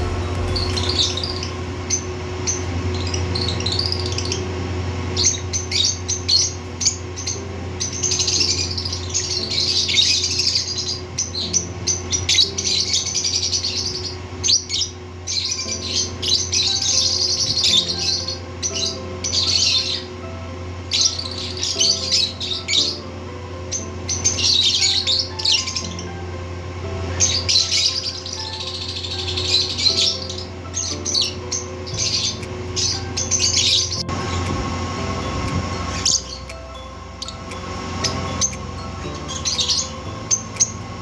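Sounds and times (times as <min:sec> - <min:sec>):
lovebirds chirping: 0:00.0 - 0:41.0
steady low hum: 0:00.0 - 0:41.0.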